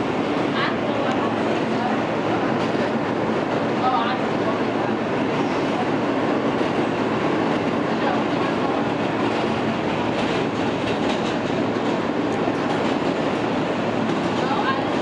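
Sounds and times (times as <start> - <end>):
subway car wheels rumbling on rail: 0.0 - 15.0.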